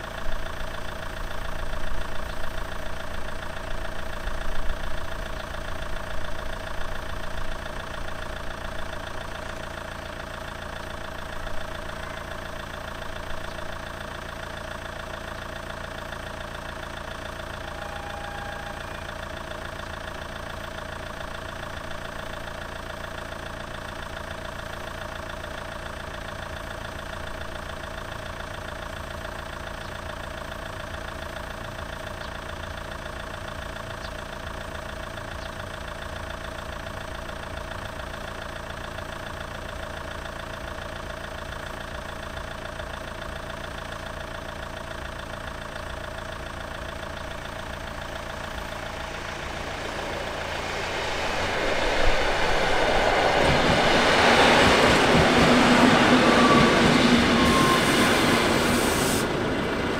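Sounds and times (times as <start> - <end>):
approaching train: 0.0 - 32.0, 32.7 - 59.9
engine idling: 0.0 - 59.9.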